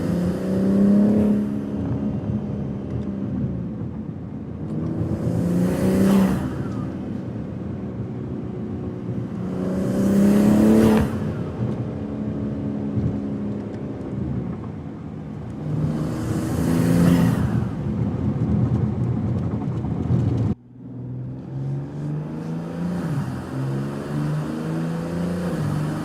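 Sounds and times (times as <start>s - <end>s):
car engine accelerating hard: 0.0s - 3.9s, 4.6s - 26.0s.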